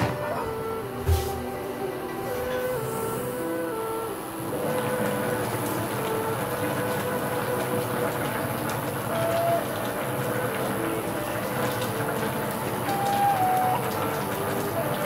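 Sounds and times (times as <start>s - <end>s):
soft background music: 0.0s - 15.0s
broth bubbling in saucepan: 0.2s - 15.0s.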